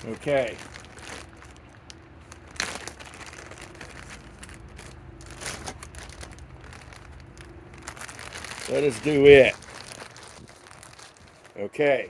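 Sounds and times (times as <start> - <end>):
crinkling rustles: 0.0 - 12.0
rustling and handling noise: 0.0 - 12.0.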